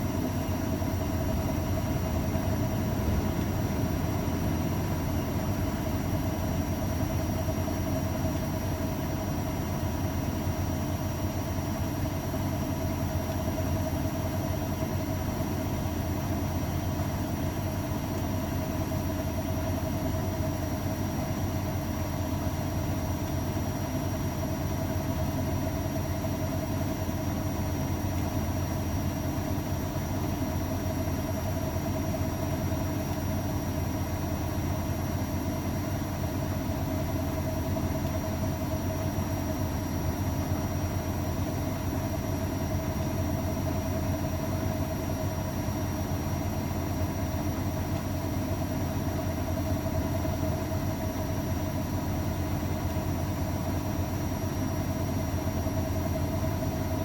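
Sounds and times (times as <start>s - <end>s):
washing machine droning: 0.0s - 57.0s.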